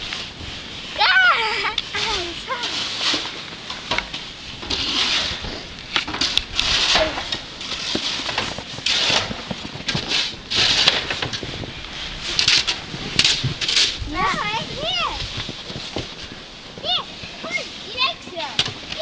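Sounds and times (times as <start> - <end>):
snow crunching and scraping: 0.0 - 19.0.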